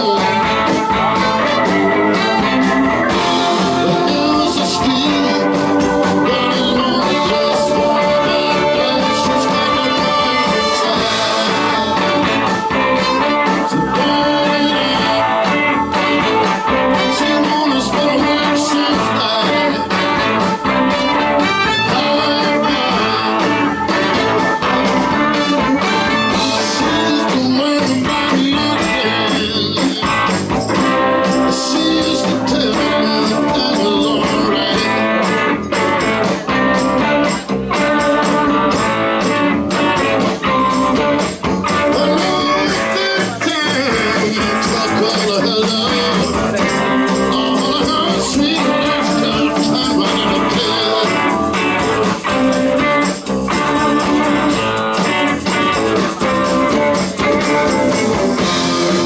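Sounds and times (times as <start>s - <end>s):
electric guitar playing: 0.0s - 59.0s
live blues band: 0.0s - 59.0s.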